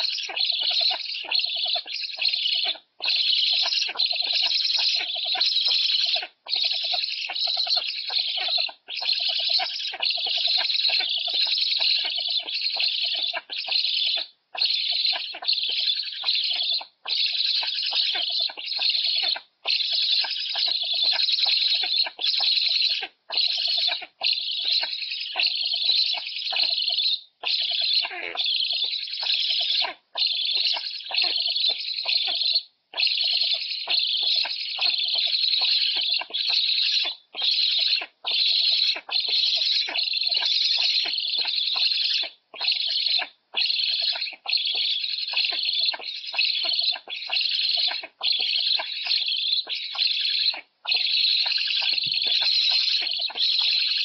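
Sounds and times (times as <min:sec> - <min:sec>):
young storks rasping calls: 0:00.0 - 0:54.0.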